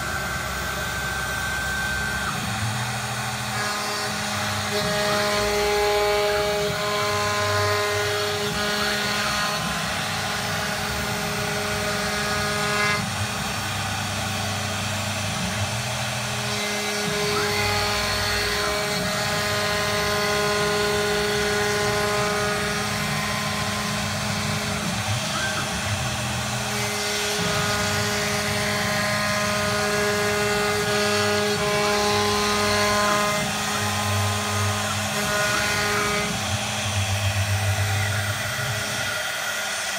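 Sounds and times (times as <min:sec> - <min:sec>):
router whining tones: 0:00.0 - 0:39.9
wood cutting noise: 0:00.0 - 0:39.9.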